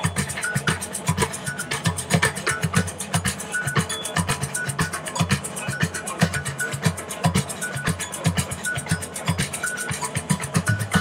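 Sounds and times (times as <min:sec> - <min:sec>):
deep drum beats: 0:00.0 - 0:11.0.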